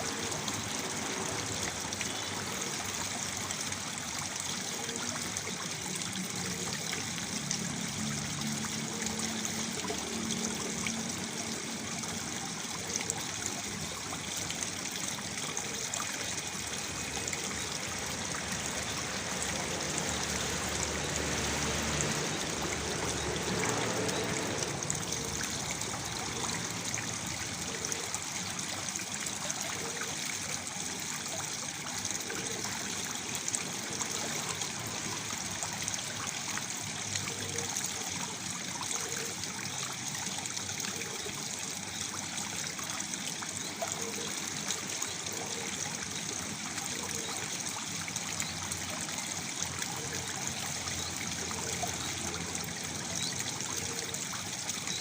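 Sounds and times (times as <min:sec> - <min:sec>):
waterfall pouring into pool: 0:00.0 - 0:55.0.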